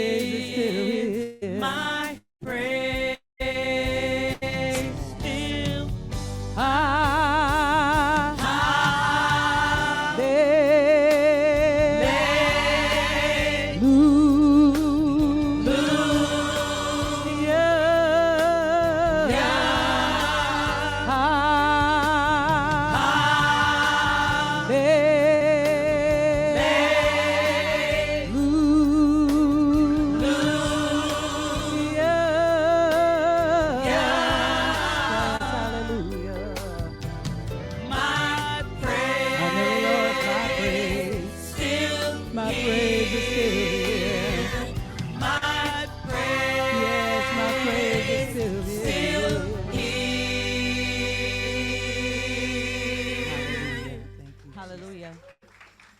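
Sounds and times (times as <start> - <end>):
gospel choir singing: 0.0 - 54.2
instrumental accompaniment: 4.8 - 54.6.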